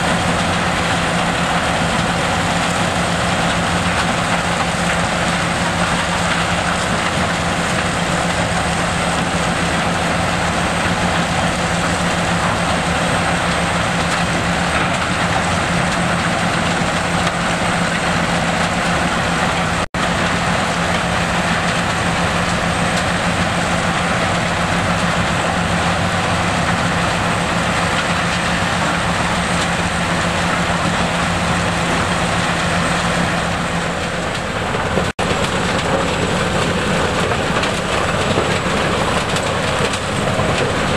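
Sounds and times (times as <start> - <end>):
mobile crusher crushing rubble: 0.0 - 40.9.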